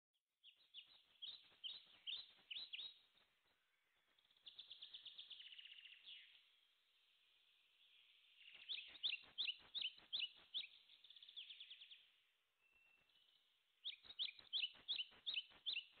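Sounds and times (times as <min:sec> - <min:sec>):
small bird chirping and trilling: 0:00.4 - 0:06.6, 0:07.8 - 0:16.0.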